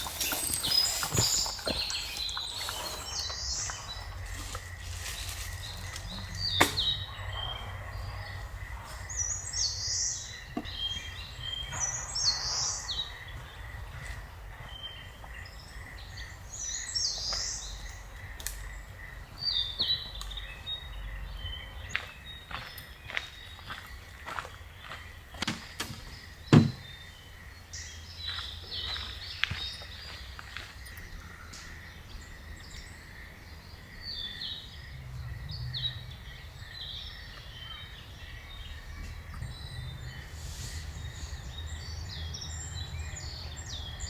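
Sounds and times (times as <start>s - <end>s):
forest birds singing: 0.0s - 44.0s.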